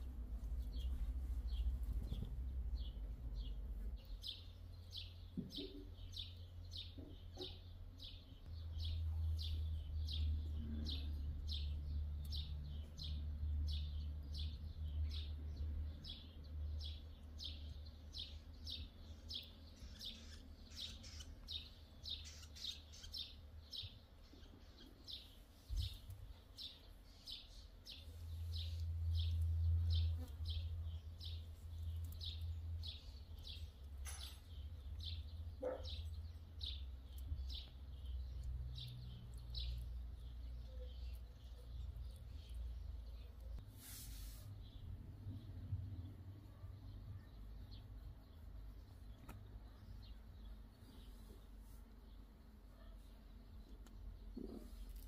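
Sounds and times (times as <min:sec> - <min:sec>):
small bird chirping: 0:00.0 - 0:55.0.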